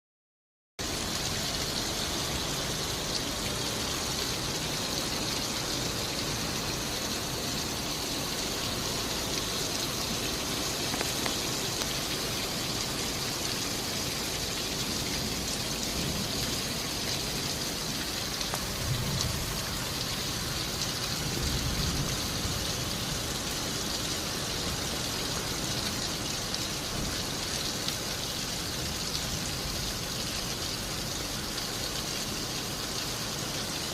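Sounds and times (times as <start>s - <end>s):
heavy rain falling: 0.8s - 33.9s.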